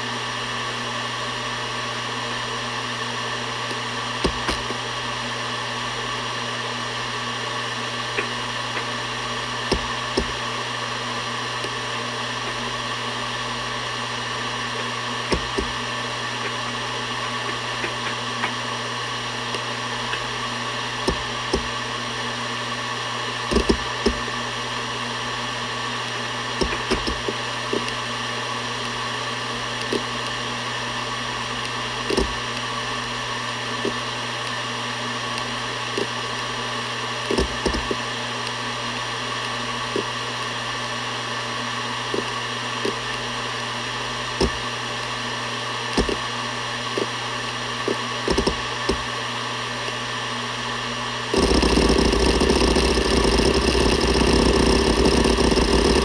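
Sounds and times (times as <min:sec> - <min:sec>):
hard drive spinning hum: 0:00.0 - 0:56.0
hard drive seek clicks: 0:03.4 - 0:06.2, 0:07.9 - 0:56.0.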